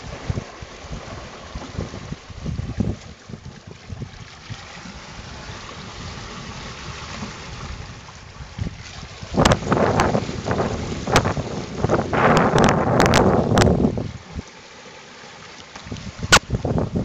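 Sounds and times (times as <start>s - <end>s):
wind gusting on microphone: 0.0s - 14.4s, 15.9s - 17.0s
water rushing along a hull: 0.0s - 17.0s.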